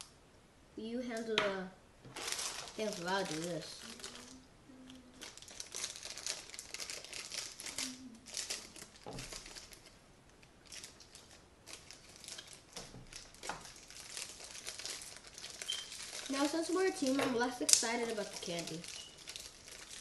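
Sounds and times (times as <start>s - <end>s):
plastic bags crinkling: 2.1s - 20.0s.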